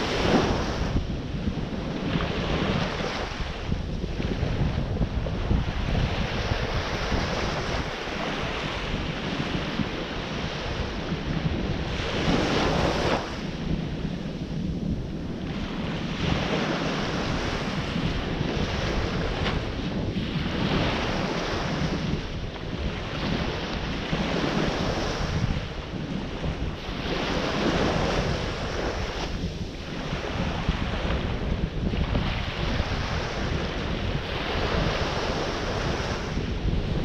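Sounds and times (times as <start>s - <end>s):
ocean waves breaking: 0.0s - 37.0s
wind rumble on microphone: 0.0s - 37.0s.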